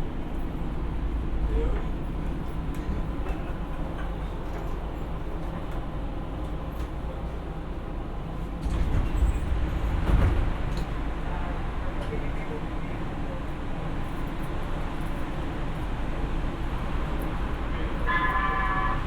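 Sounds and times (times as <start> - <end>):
rail car interior rumble: 0.0 - 19.0.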